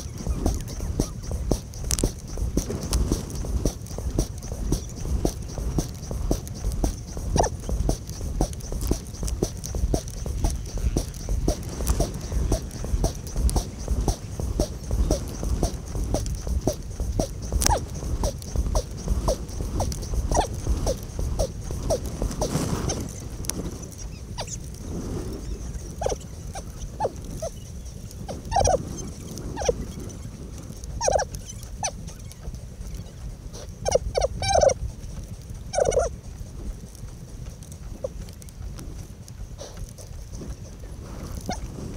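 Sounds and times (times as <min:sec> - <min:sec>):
rhythmic rowing sounds: 0:00.0 - 0:41.9
wind rumble: 0:00.0 - 0:41.9.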